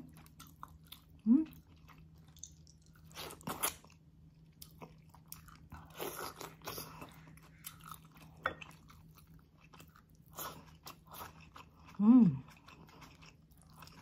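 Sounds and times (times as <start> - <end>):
close-up chewing: 0.0 - 14.0.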